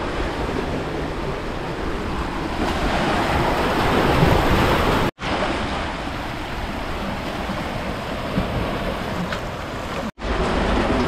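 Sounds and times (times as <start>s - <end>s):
waves breaking on rocky shore: 0.0s - 11.0s.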